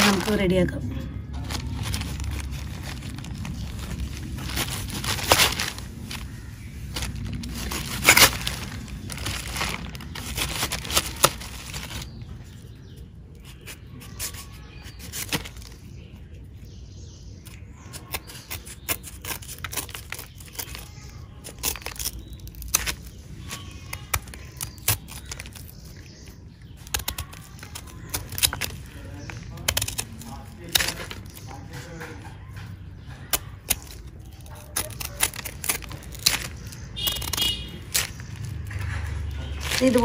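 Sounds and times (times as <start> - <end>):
rustling handling of fruit: 0.0 - 16.7, 17.5 - 40.0.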